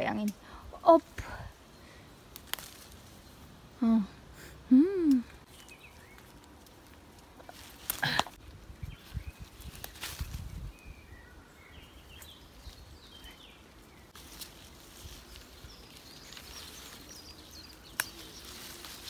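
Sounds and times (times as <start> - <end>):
stems and leaves rustling: 0.0 - 4.1, 5.0 - 19.0
birds chirping: 0.0 - 19.0.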